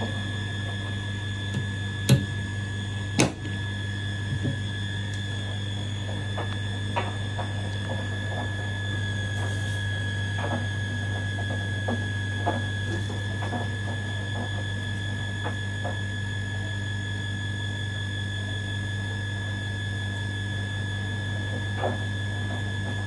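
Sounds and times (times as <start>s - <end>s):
washing machine hum and whine: 0.0s - 23.0s.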